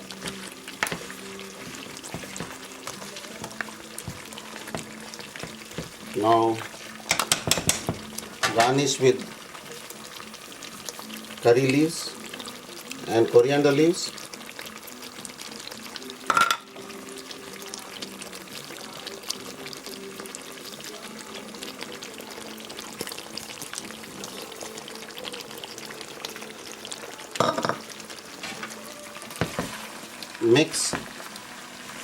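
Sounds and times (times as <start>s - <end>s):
chicken sizzling in a pan: 0.0s - 32.0s.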